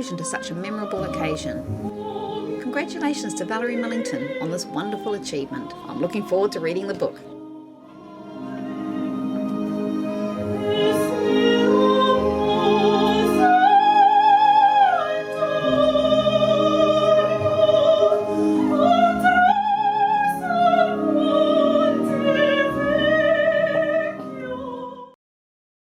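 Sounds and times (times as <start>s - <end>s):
piano accompaniment: 0.0s - 25.1s
operatic solo singing: 0.0s - 25.2s.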